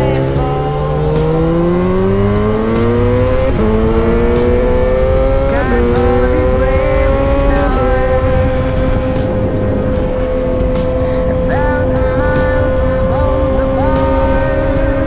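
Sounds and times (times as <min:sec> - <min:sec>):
motorcycle engine accelerating: 0:00.0 - 0:15.0
quick gear upshifts: 0:00.0 - 0:15.0.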